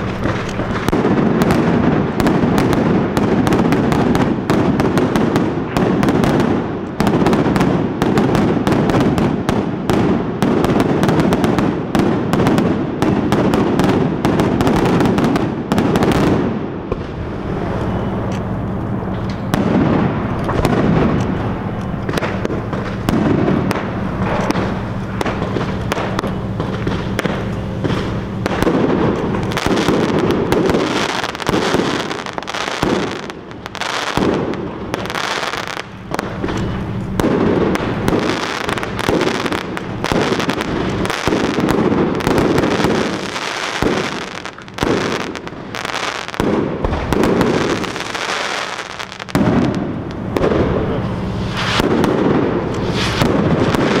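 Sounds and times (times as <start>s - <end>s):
sharp bangs and pops: 0.0s - 54.0s
steady low hum: 0.0s - 54.0s.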